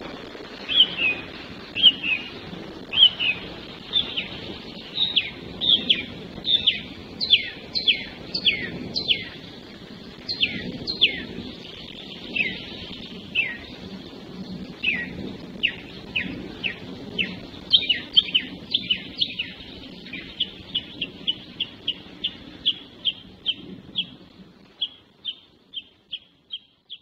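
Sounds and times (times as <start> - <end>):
low outdoor background noise: 0.0 - 27.0
songbird repeating down-slurred notes: 3.0 - 9.4, 10.2 - 13.8, 14.8 - 27.0.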